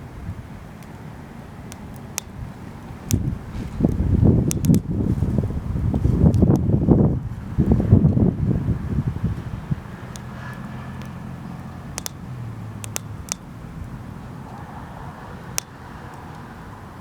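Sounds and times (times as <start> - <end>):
wood fire crackling: 0.0 - 17.0
sharp pops: 0.7 - 8.2, 9.2 - 16.5.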